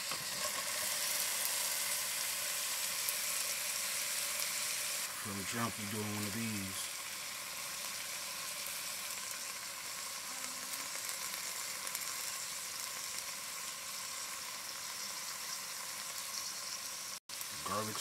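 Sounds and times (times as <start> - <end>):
meat sizzling in a pot: 0.0 - 18.0.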